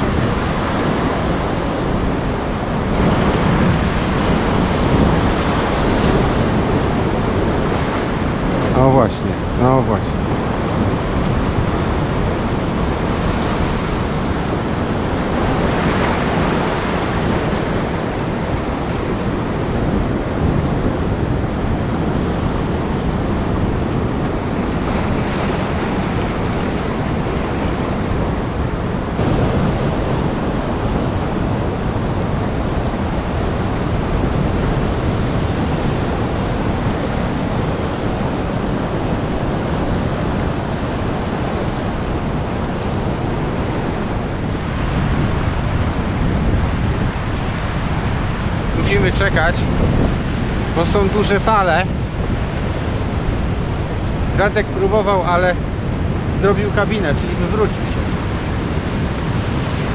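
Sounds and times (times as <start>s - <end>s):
surf breaking on rocks: 0.0s - 59.9s
wind buffeting microphone: 0.0s - 59.9s.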